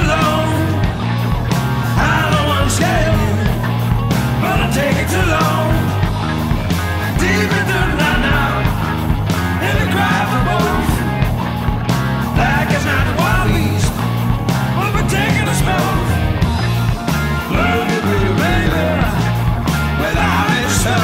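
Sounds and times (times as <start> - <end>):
bass guitar: 0.0 - 21.0
drums: 0.0 - 21.0.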